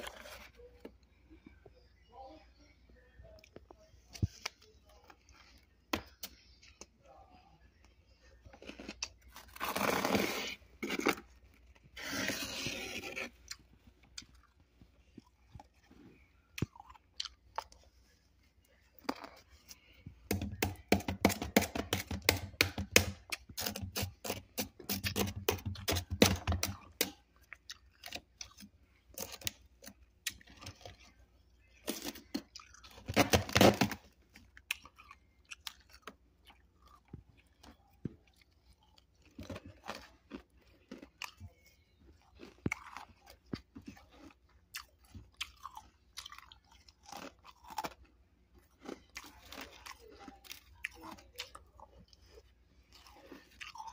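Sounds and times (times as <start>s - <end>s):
frost being chewed: 3.3s - 20.8s, 21.8s - 53.9s.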